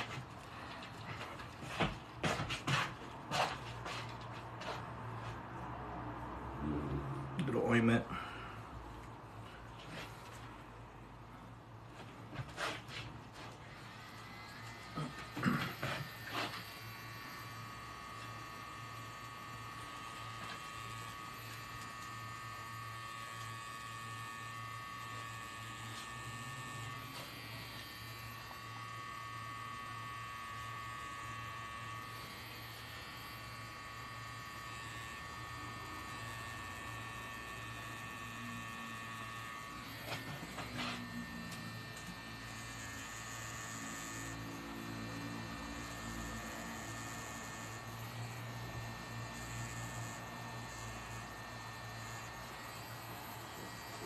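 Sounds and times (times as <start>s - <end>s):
tattoo machine humming: 0.0s - 54.0s.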